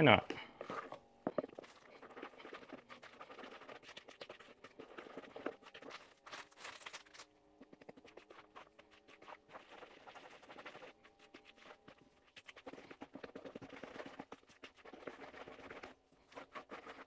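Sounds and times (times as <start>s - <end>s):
utensil scraping a mixing bowl: 0.0s - 17.0s.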